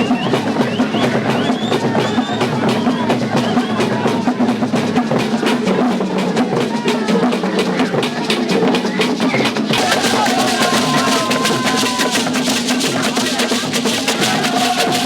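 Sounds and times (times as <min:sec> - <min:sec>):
fast drumming and percussion: 0:00.0 - 0:15.0.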